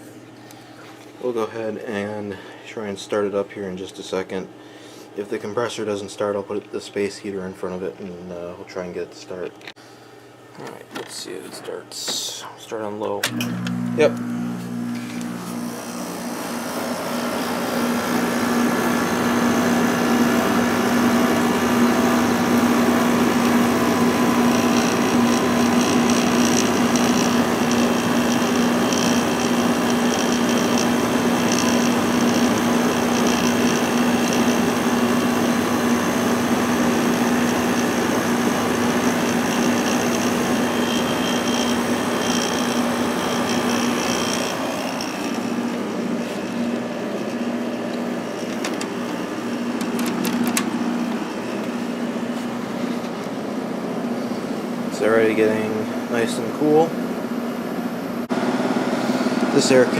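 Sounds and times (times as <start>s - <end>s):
compressor low hum: 0.0s - 59.9s
fan air rushing: 9.8s - 59.9s.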